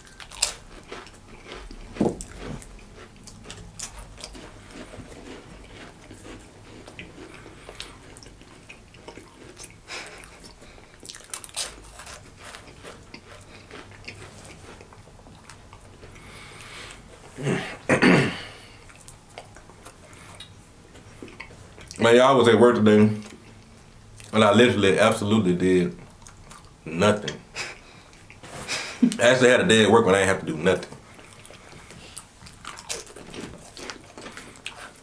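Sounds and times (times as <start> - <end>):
crackers crunching being chewed: 0.0 - 17.4, 18.4 - 22.1, 26.0 - 29.3, 30.4 - 35.0.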